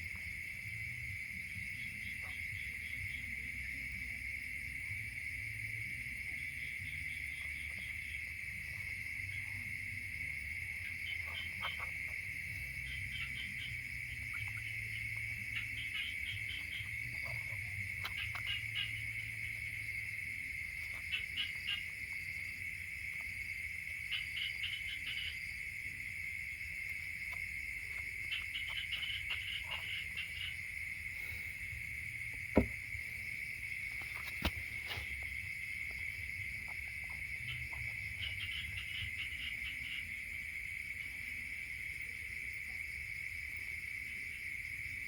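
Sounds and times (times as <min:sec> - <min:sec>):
high-pitched insect trill: 0:00.0 - 0:45.0.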